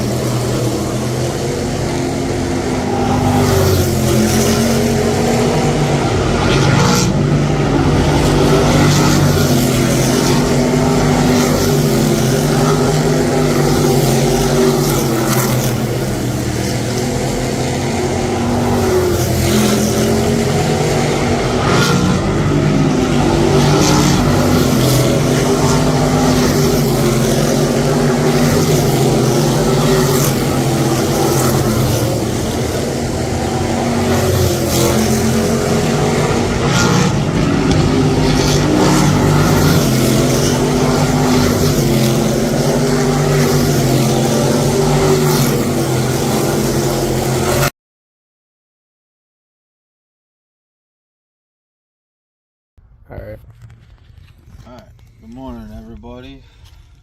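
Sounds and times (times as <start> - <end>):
engine running steadily: 0.0 - 47.7.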